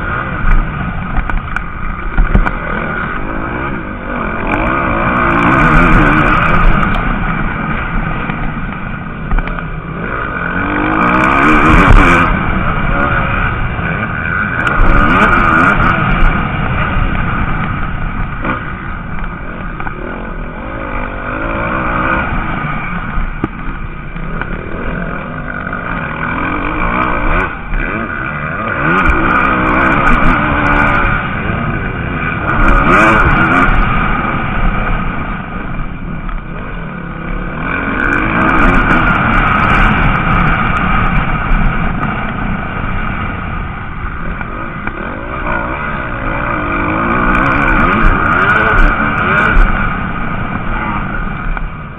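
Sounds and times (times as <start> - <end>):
motocross motorcycles revving: 0.0 - 51.9.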